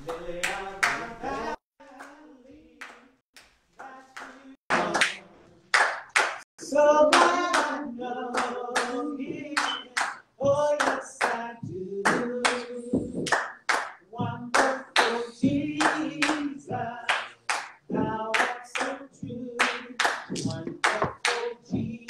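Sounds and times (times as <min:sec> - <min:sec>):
hands clapping along: 0:00.0 - 0:01.1, 0:02.8 - 0:06.5, 0:07.1 - 0:21.6
voices singing gospel song: 0:00.0 - 0:03.2, 0:03.8 - 0:05.6, 0:06.6 - 0:22.0.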